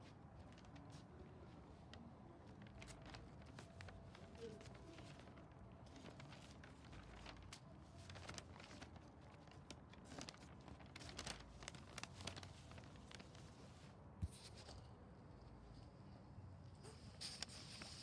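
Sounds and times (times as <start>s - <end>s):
paper crinkling and rustling: 0.0s - 14.9s.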